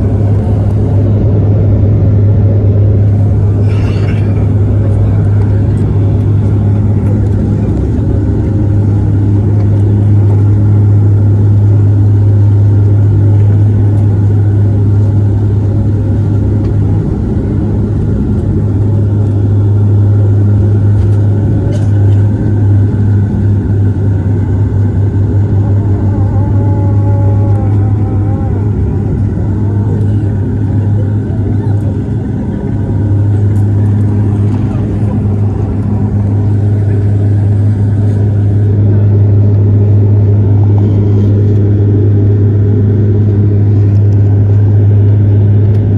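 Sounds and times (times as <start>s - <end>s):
turboprop engines droning: 0.0s - 45.9s.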